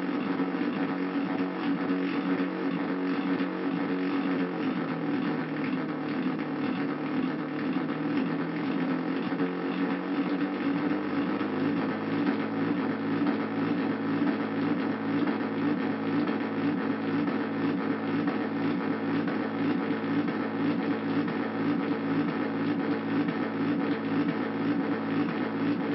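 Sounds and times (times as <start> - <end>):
synthesizer drone: 0.0 - 25.9.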